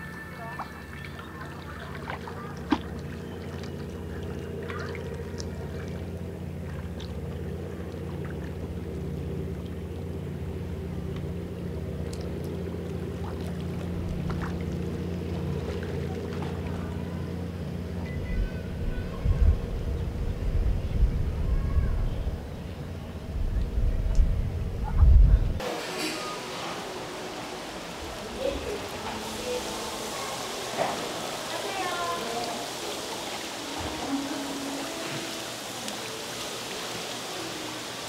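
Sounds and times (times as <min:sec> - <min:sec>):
low engine drone: 0:00.0 - 0:38.0.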